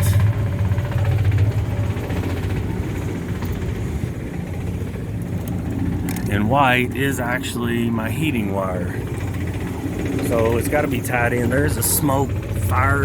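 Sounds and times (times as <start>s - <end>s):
air conditioning unit hum: 0.0s - 13.0s.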